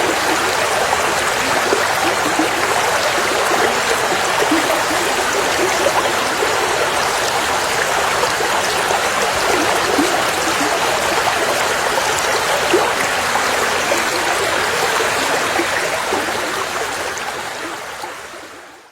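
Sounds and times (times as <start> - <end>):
river water flowing over stones: 0.0 - 18.9.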